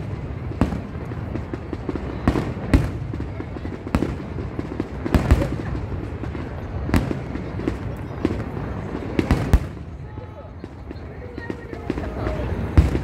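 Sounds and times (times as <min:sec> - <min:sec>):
fireworks bangs: 0:00.0 - 0:13.0
steady background noise: 0:00.0 - 0:13.0.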